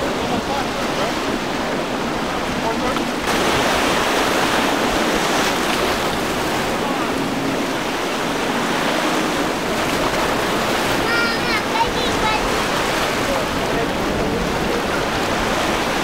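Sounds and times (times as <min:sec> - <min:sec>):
waves and boat wake rushing: 0:00.0 - 0:16.0.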